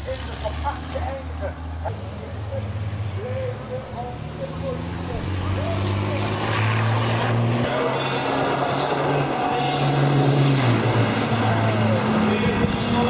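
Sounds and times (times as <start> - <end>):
diesel truck engines: 0.0 - 13.0.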